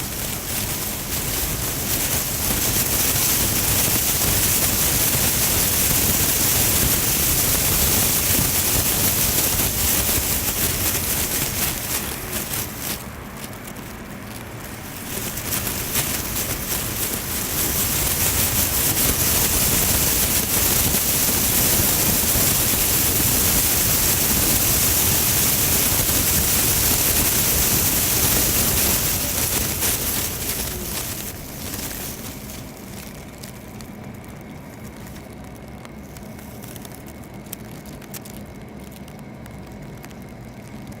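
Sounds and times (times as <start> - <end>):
tyres hissing on wet road: 0.0 - 33.8
rain falling on a car: 0.0 - 41.0.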